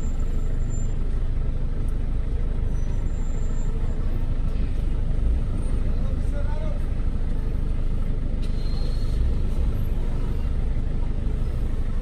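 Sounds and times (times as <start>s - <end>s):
car and truck engines: 0.0s - 12.0s.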